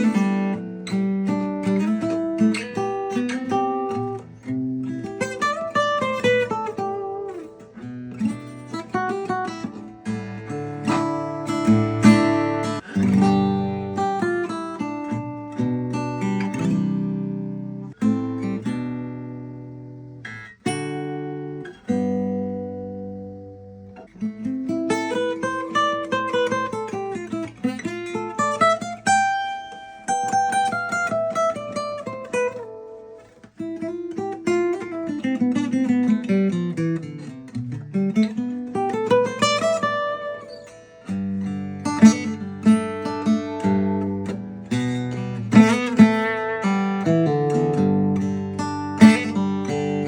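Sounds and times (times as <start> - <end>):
fingerstyle acoustic guitar: 0.0 - 50.0.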